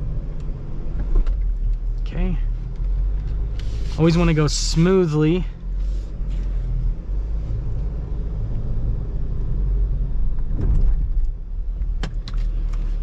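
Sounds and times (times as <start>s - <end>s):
vehicle engine low rumble: 0.0s - 13.0s.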